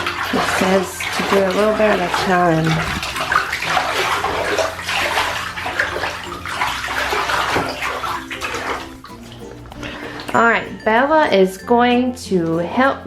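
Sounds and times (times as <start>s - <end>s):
water sloshing in a bathtub: 0.0s - 13.0s.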